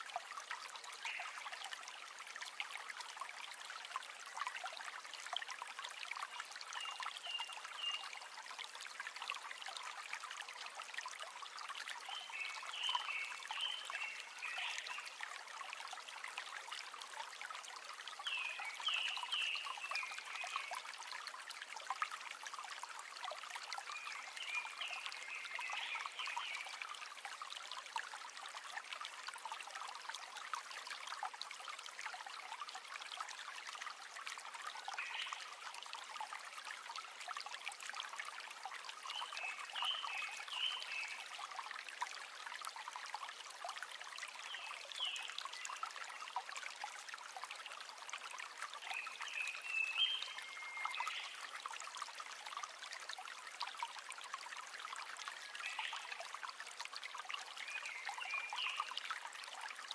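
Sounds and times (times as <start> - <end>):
river water babbling over stones: 0.0 - 59.9.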